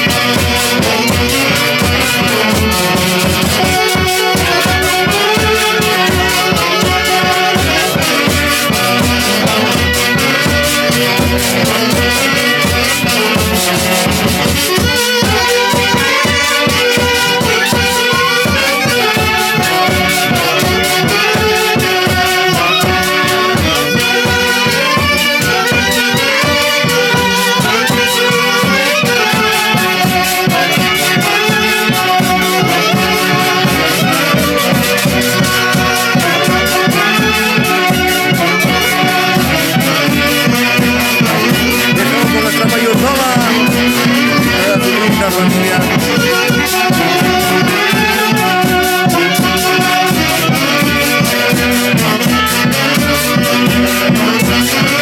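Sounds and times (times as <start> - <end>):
folk dance tune ensemble: 0.0 - 55.0.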